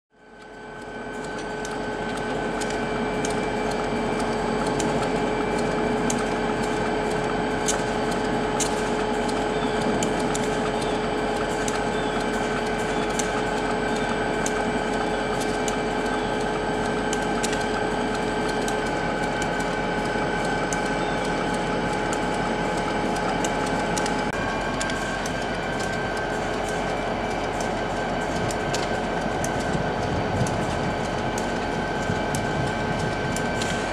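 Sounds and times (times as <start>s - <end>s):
diesel locomotive engine idling: 0.2s - 33.9s.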